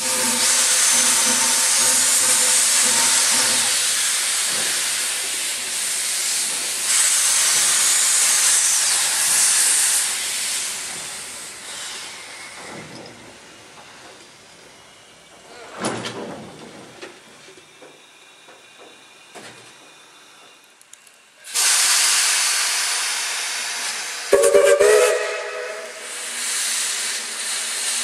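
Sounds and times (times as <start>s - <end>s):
steam locomotive venting steam: 0.0s - 28.0s.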